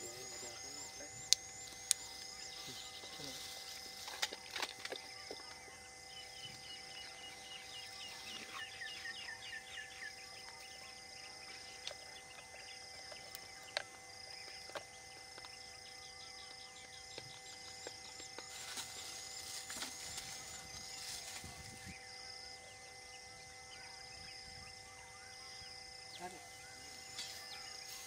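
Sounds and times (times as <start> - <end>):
birds chirping: 0.0 - 28.0
insects: 0.0 - 28.0.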